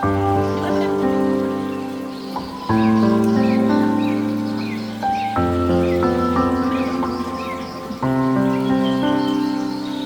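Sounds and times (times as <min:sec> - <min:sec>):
instrumental music of sustained chords: 0:00.0 - 0:10.0.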